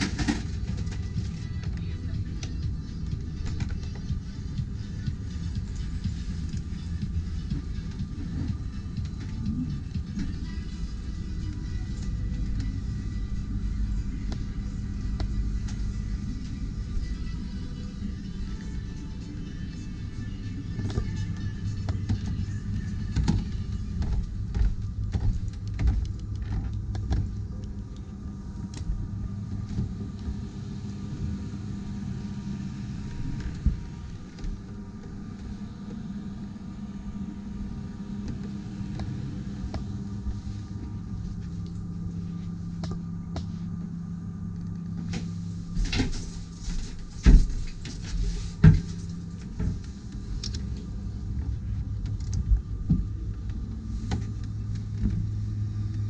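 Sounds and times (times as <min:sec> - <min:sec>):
low hum with held tones: 0:00.0 - 0:56.0.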